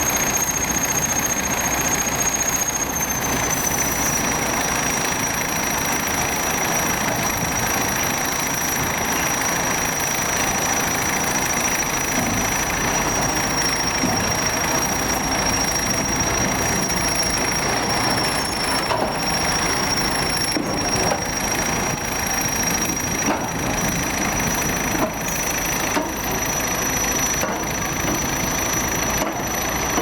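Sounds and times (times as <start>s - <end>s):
high-pitched whine: 0.0s - 29.6s
excavator diesel engine running: 0.0s - 30.0s.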